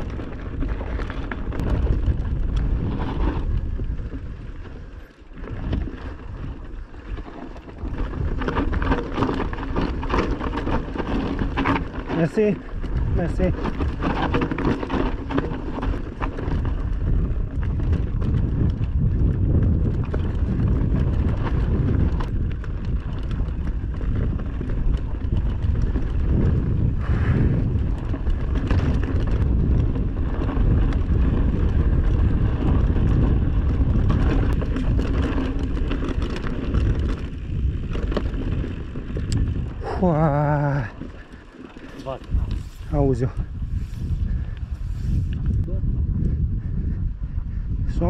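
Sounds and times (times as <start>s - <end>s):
vehicle rumble on rough road: 0.0s - 47.8s
wind on microphone: 0.0s - 48.0s.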